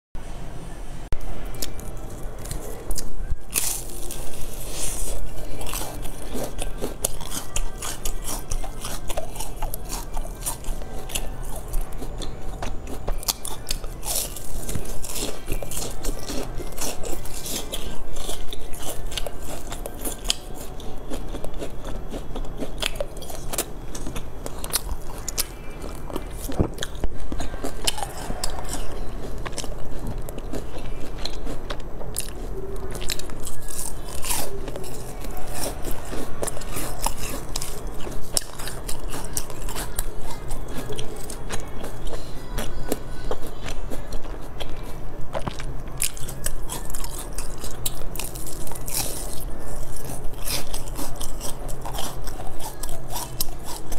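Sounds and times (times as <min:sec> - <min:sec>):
crunchy biting and chewing: 0:01.2 - 0:53.9.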